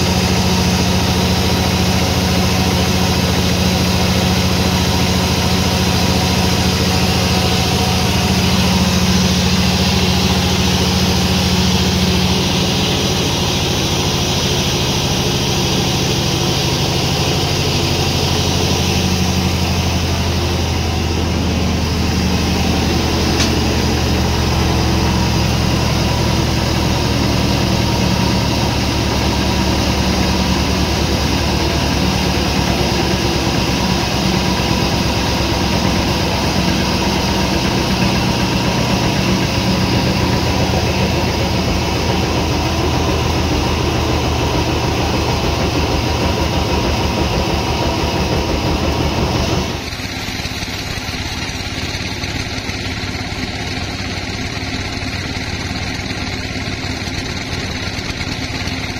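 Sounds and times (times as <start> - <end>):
sawmill machinery droning: 0.0 - 58.9.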